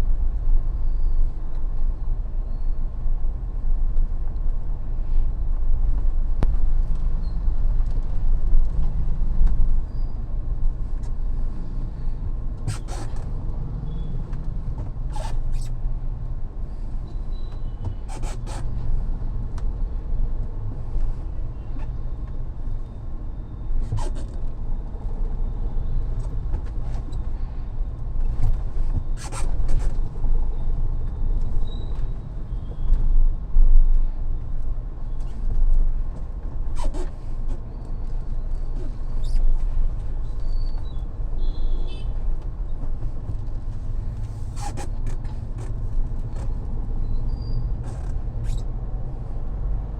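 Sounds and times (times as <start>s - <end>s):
road and engine rumble in car: 0.0s - 49.9s.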